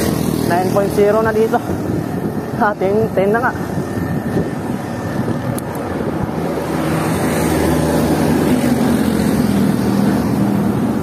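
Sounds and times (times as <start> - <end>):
engine drone: 0.0 - 11.0
road noise: 0.0 - 11.0.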